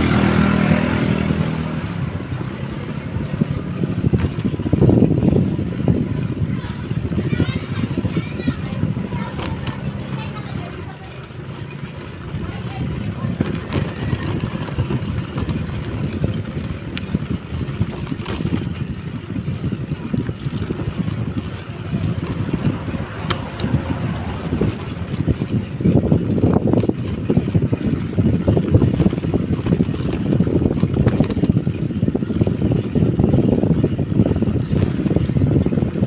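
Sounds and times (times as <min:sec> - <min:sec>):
tyre noise on road: 0:00.0 - 0:36.0
wind rushing over microphone: 0:00.0 - 0:36.0.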